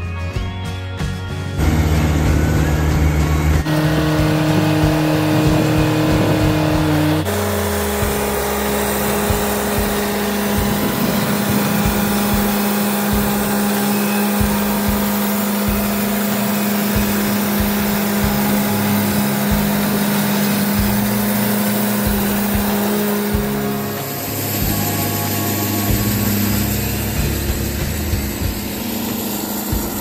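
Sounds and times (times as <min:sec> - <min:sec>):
band sawmill engine hum: 0:00.0 - 0:30.0
band blade cutting log: 0:03.6 - 0:30.0.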